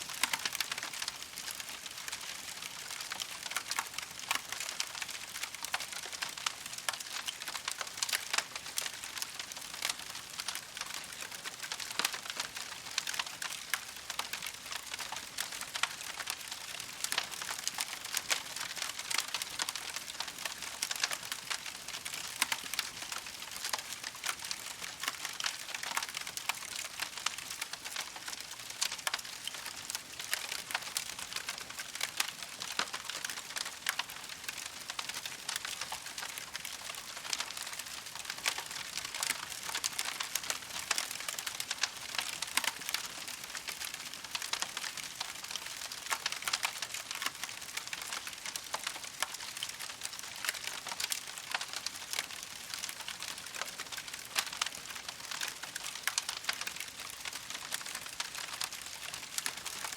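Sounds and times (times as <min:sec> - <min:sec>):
campfire crackling: 0:00.1 - 0:59.9.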